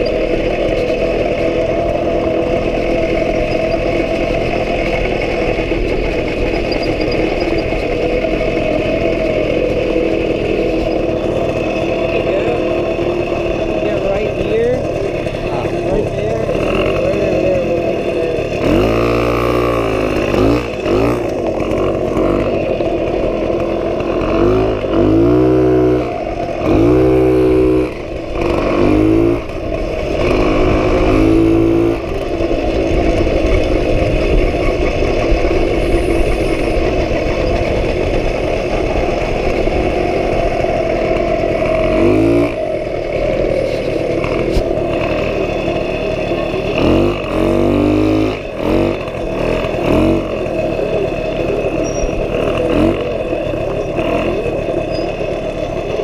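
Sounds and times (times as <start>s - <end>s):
moped engine revving: 0.0s - 56.0s.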